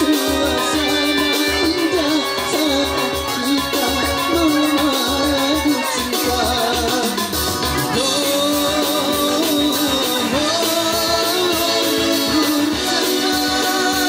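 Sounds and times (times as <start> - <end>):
song with singing and guitar: 0.0 - 14.0.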